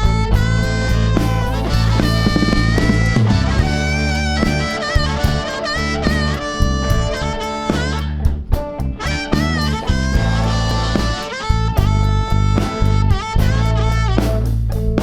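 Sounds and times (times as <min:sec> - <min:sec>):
blues band playing: 0:00.0 - 0:15.0
lead guitar bent notes: 0:00.0 - 0:15.0.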